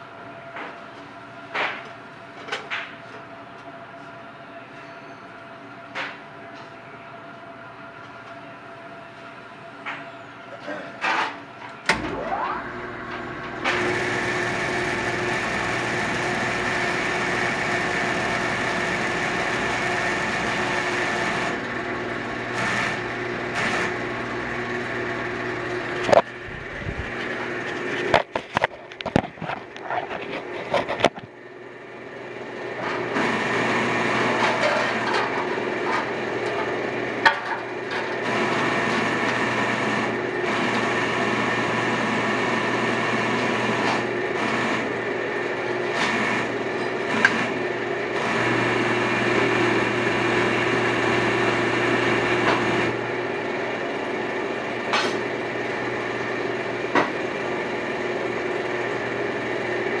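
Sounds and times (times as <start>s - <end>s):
shop machine humming: 0.0s - 60.0s.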